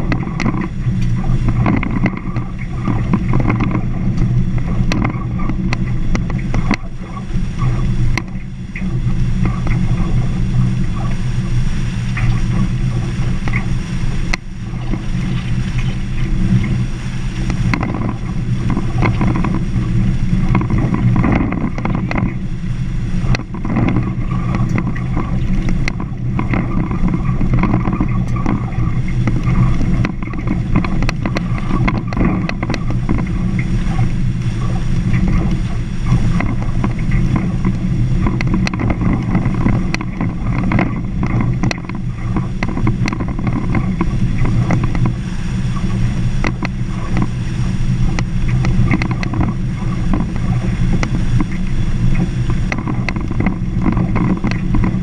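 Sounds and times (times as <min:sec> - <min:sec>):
gravel clicks and rattles: 0:00.0 - 0:55.0
vehicle engine and tyre rumble: 0:00.0 - 0:55.0.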